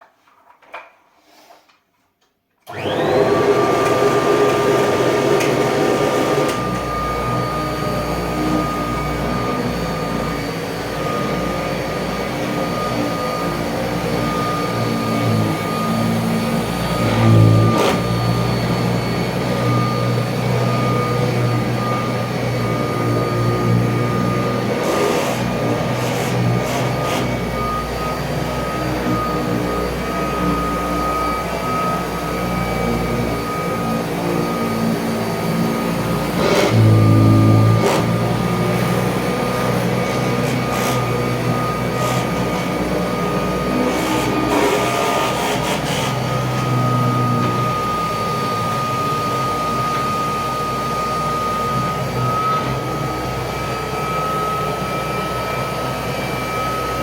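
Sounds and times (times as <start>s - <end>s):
vacuum cleaner motor whine: 2.6s - 57.0s.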